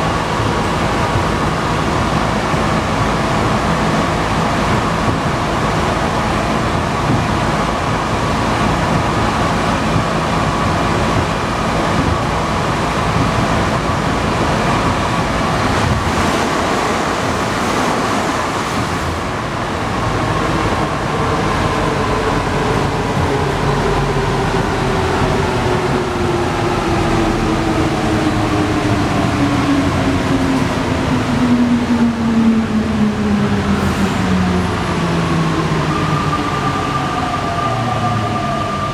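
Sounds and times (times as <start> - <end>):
metro train rushing: 0.0 - 38.9.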